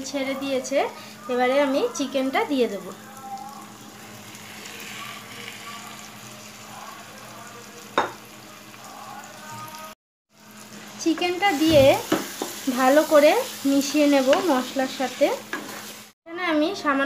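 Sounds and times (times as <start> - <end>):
chicken sizzling in oil: 0.0 - 16.2.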